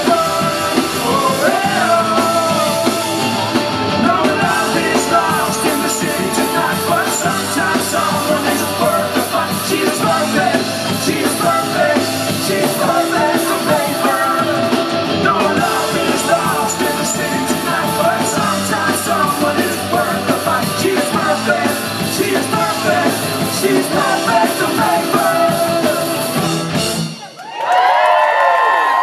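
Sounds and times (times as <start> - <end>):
person singing: 0.0 - 26.6
rock band playing live: 0.0 - 27.4.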